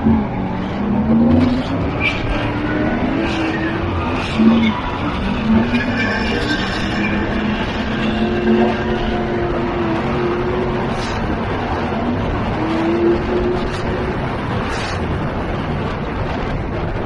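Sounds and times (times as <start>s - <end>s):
car engine revving: 0.0s - 16.7s
wind buffeting microphone: 0.0s - 17.0s.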